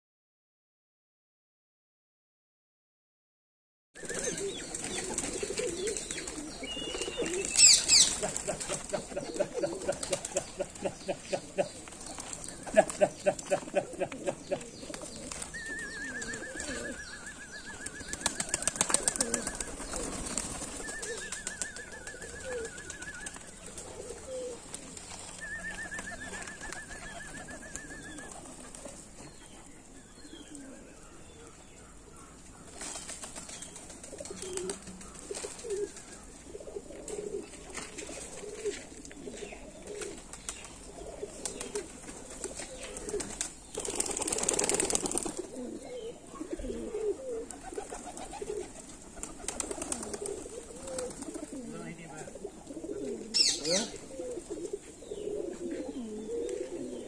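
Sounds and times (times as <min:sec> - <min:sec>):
pigeons cooing: 0:04.0 - 0:31.6, 0:32.7 - 0:57.0.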